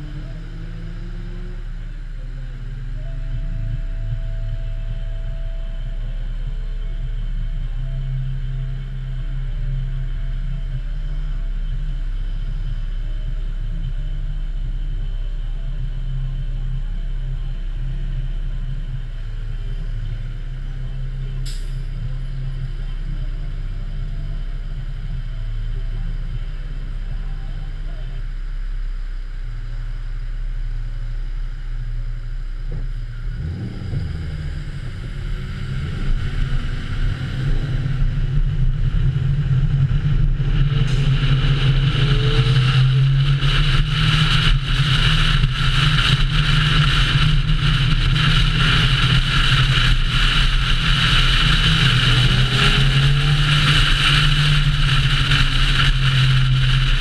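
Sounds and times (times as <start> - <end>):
car engine idling and revving: 0.0 - 57.0
wind and road noise: 0.0 - 57.0.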